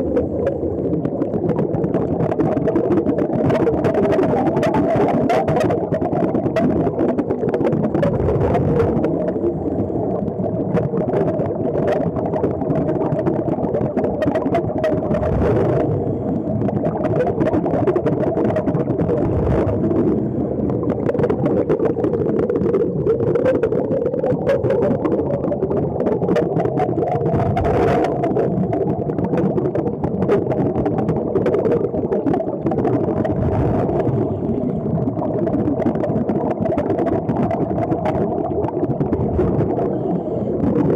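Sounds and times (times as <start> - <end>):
bubbling from diving helmets: 0.0 - 40.9
muffled underwater mechanical drone: 0.0 - 40.9.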